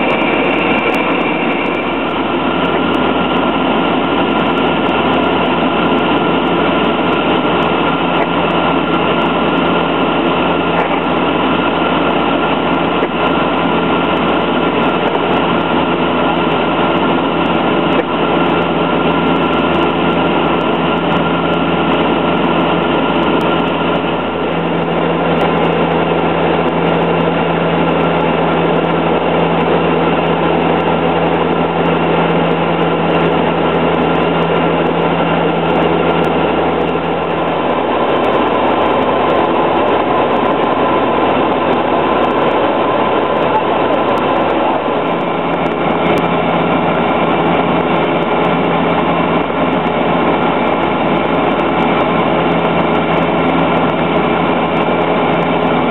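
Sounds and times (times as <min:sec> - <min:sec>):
aircraft engine and propeller: 0:00.0 - 0:55.9.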